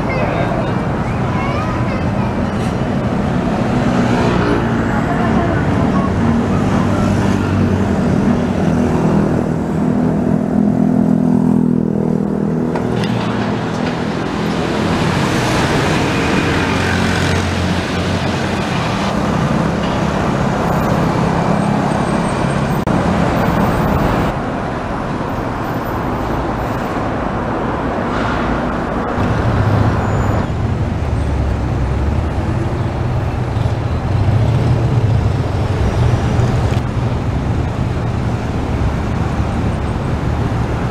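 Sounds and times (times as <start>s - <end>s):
motorcycles passing: 0.0s - 25.1s, 26.4s - 40.9s
buses passing: 0.0s - 40.9s
cars passing: 0.0s - 40.9s.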